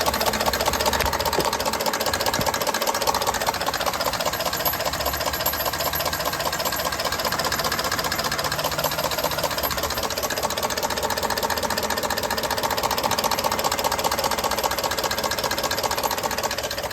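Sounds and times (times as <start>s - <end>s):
engine running with rapid knock: 0.0s - 16.9s.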